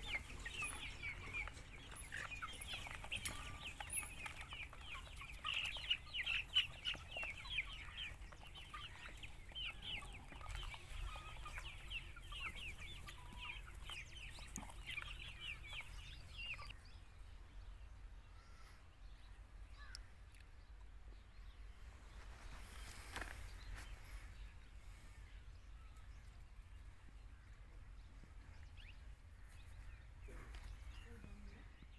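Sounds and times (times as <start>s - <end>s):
young chickens clucking and cheeping: 0.0s - 31.9s.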